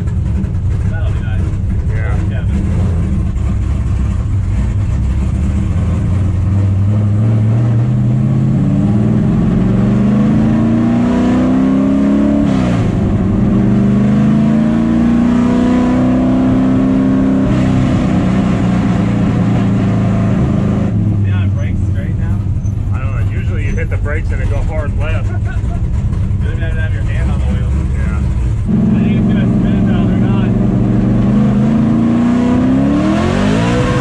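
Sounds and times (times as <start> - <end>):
race truck engine accelerating: 0.0 - 34.0.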